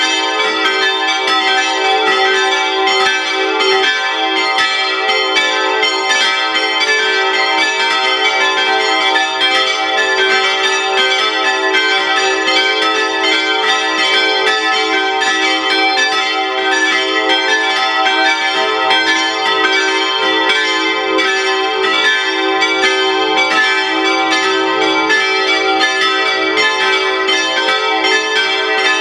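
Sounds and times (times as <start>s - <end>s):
church bells pealing: 0.0s - 29.0s.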